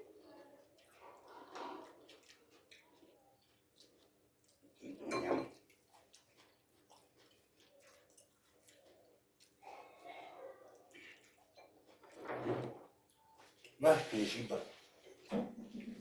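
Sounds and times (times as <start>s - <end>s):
chewing with small clicks: 0.0s - 13.8s.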